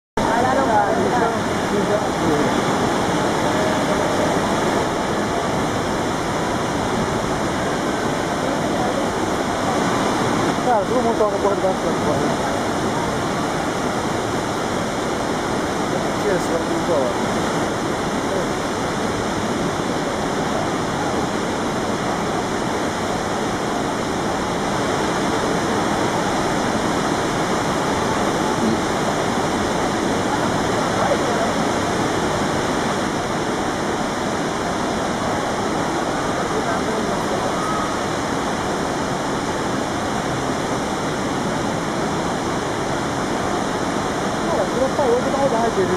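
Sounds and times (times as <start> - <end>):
churning whitewater: 0.2 - 45.9
waterfall rushing: 0.2 - 45.9.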